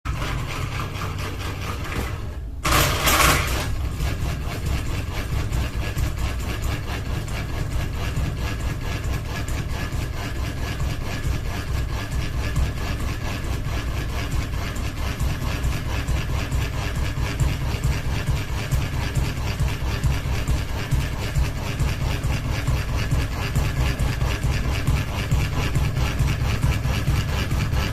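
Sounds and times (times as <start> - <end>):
fan blade rattling: 0.0 - 27.9.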